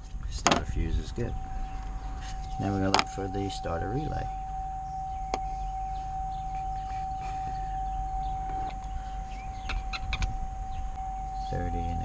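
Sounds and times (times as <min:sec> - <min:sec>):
low hum: 0:00.0 - 0:12.0
steady electronic tone: 0:00.8 - 0:12.0.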